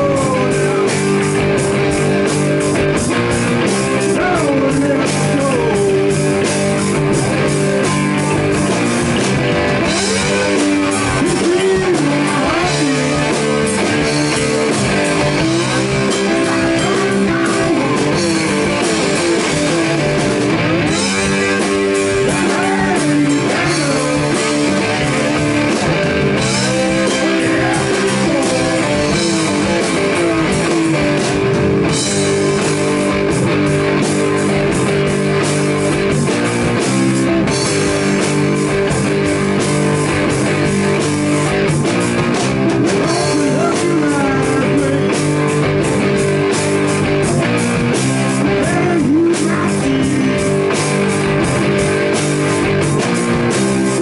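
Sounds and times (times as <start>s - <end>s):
bass guitar: 0.0s - 54.0s
drum kit: 0.0s - 54.0s
electric guitar with bent notes: 0.0s - 54.0s.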